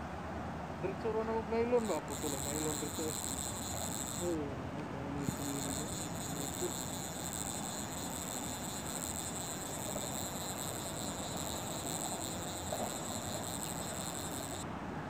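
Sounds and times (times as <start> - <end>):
insects chirping: 1.8 - 4.4, 5.2 - 14.7.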